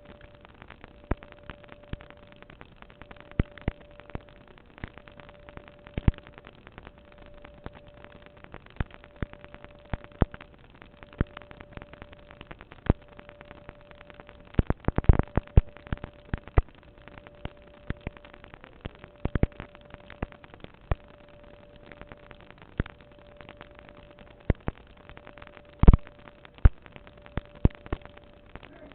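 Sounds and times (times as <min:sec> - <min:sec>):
faint steady tone: 0:00.0 - 0:28.9
sharp pops and clicks: 0:00.0 - 0:28.9.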